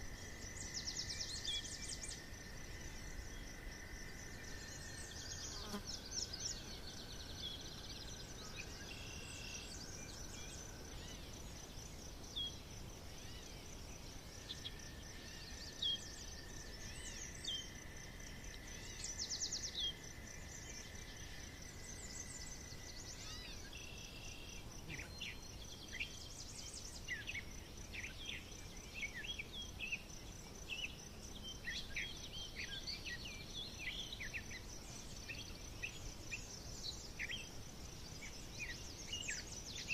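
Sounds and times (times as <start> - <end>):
forest birds singing: 0.0 - 39.9
high insect trill: 0.0 - 39.9.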